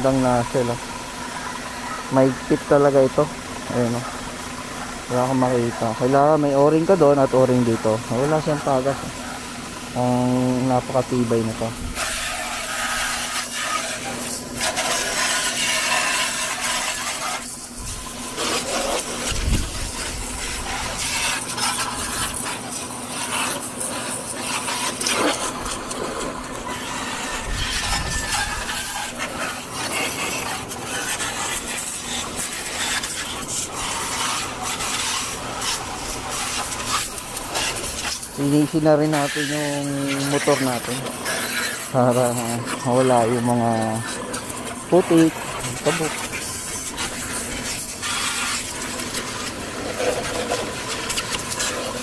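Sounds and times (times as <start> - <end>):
pressure washer spray: 0.0 - 52.0.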